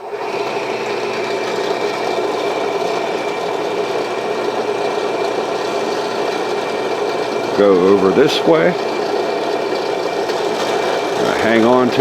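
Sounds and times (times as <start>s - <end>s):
electric drill whining: 0.0s - 12.0s.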